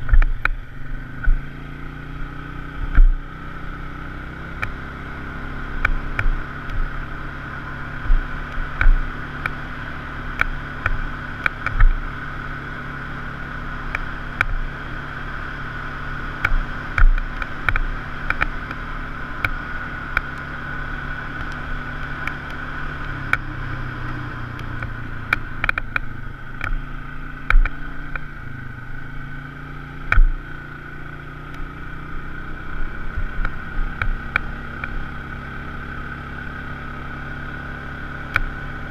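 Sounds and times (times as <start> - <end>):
engine drone with high whine: 0.0 - 38.9.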